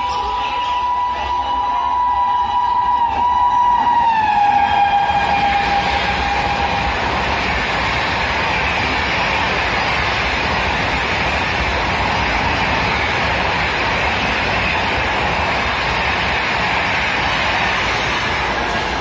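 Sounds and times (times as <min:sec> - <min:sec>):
train coaches rushing past: 0:00.0 - 0:19.0.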